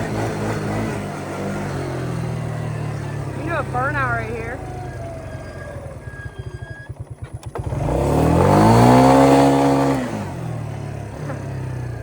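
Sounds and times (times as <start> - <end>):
atv engine idling and revving: 0.0 - 12.0.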